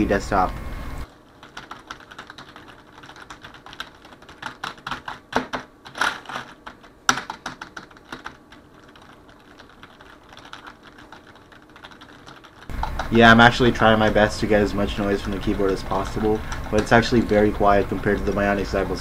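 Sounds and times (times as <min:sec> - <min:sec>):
fast typing on keyboard: 0:01.1 - 0:19.0.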